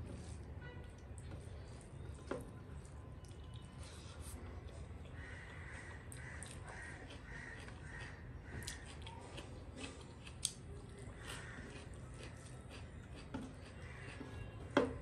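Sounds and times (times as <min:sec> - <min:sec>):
person chewing food: 0:00.9 - 0:15.0.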